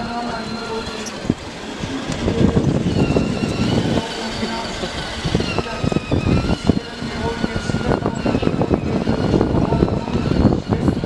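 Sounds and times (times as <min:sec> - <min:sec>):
toy car wheels rumbling on bricks: 0:00.0 - 0:11.0.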